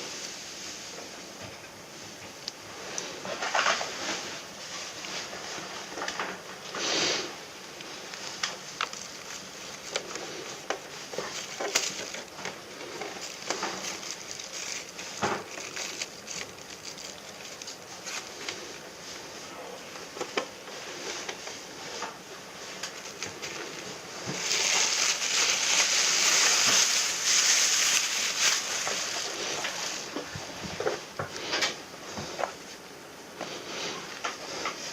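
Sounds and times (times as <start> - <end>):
steady hiss: 0.0 - 34.9.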